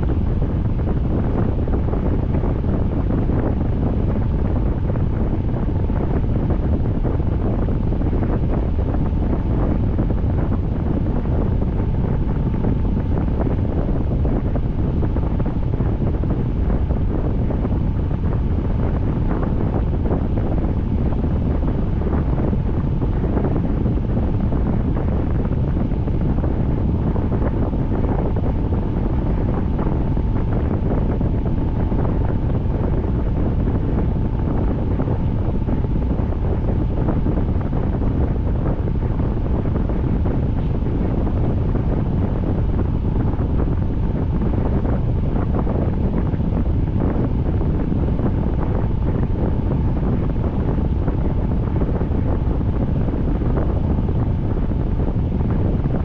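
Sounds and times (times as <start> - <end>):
faint steady whine: 0.0 - 56.0.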